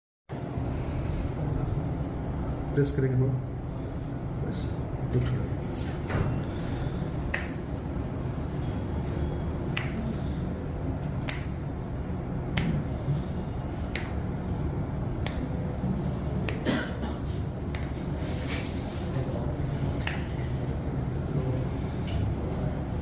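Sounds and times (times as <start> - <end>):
steady low hum: 0.3 - 23.0.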